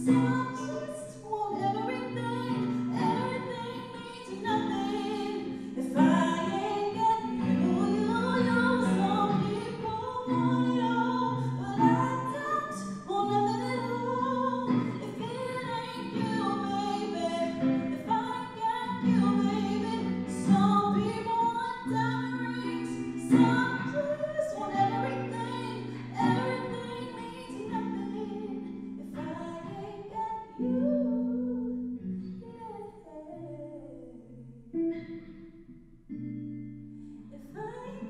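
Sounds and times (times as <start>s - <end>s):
woman singing into a microphone: 0.0s - 35.4s, 37.1s - 38.0s.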